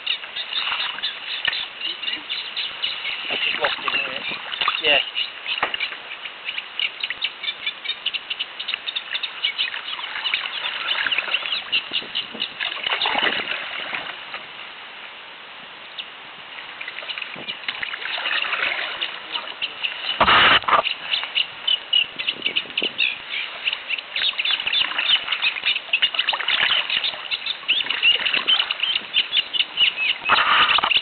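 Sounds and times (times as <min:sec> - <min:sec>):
songbird chattering song: 0:00.0 - 0:13.2, 0:16.8 - 0:31.0.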